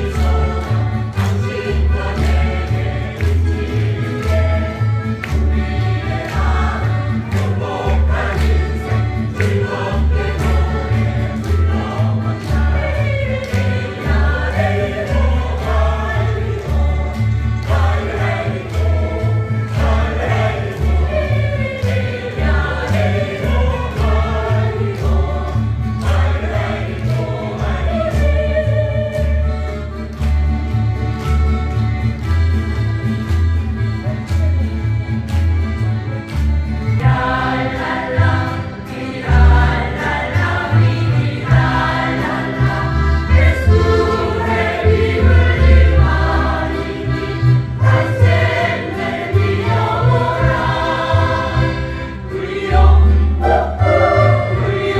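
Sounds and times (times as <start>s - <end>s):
group of voices singing: 0.0s - 30.3s, 36.8s - 54.9s.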